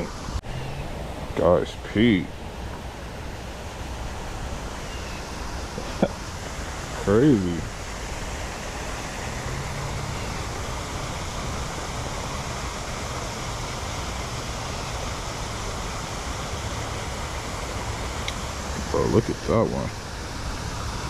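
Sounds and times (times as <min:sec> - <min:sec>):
rush of running water: 0:00.0 - 0:21.0.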